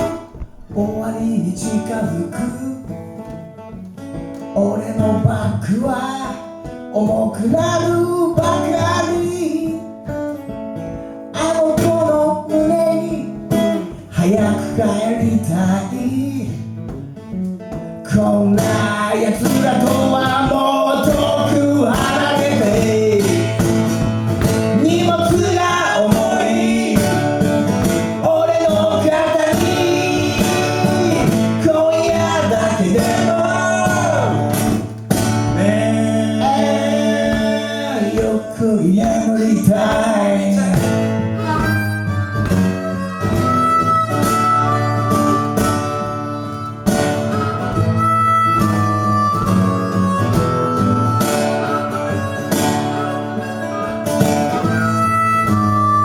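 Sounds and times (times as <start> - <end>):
acoustic guitar: 0.0 - 56.0
harmonica bending notes: 10.1 - 56.0.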